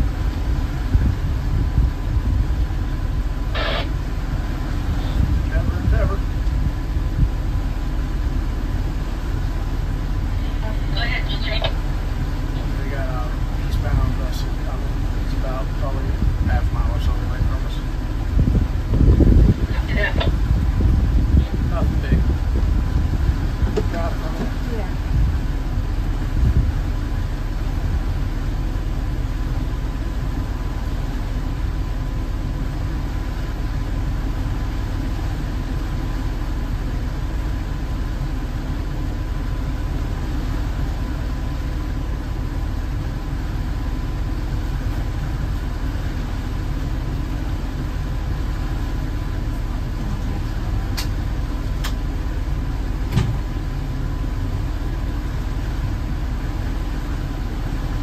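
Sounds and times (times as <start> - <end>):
boat engine low drone: 0.0 - 58.0.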